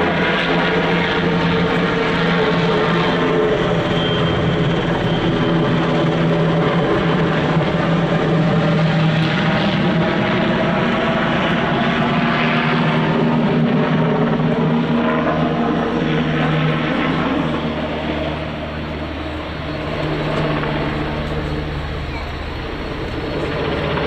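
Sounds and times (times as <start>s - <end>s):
helicopter rotor and engine drone: 0.0s - 24.0s.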